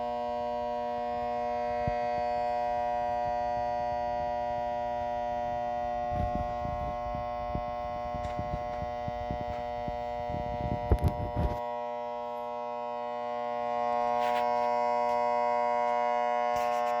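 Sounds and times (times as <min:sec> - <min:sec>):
fan motor humming: 0:00.0 - 0:17.0.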